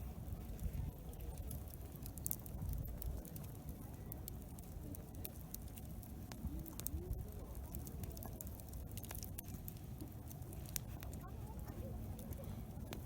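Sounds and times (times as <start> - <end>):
busy campsite rumble: 0.0 - 13.0
campfire crackling: 0.0 - 13.0
small pops of fire: 0.0 - 13.0.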